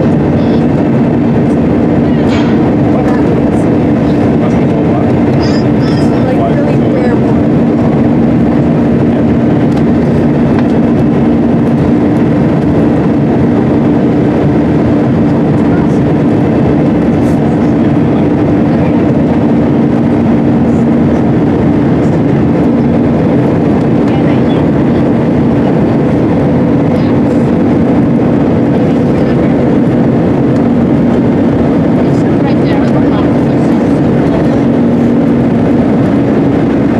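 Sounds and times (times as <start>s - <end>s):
jet engines at climb power: 0.0s - 36.9s
low hum: 0.0s - 36.9s
rushing airflow: 0.0s - 36.9s.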